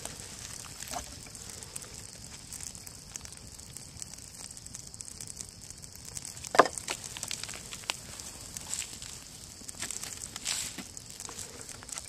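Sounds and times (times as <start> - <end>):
small fire crackling: 0.0 - 12.0.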